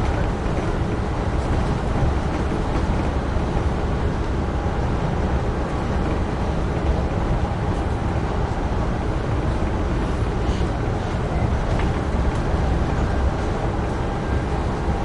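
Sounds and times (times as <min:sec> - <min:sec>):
air noise: 0:00.0 - 0:15.0
train wheels rumbling on rail: 0:00.0 - 0:15.0.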